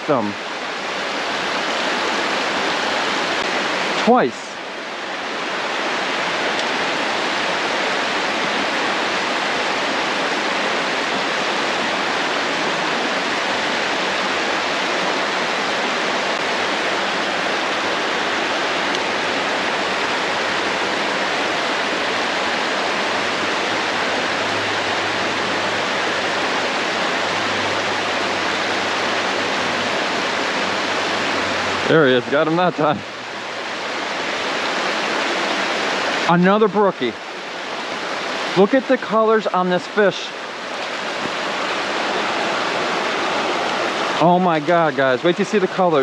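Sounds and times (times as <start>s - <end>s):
creek water rushing over rocks: 0.0s - 46.0s.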